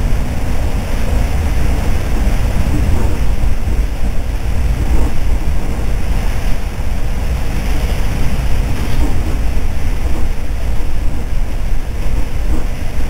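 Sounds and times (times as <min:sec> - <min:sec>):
rushing air: 0:00.0 - 0:13.0
train wheels rumbling on rails: 0:00.0 - 0:13.0.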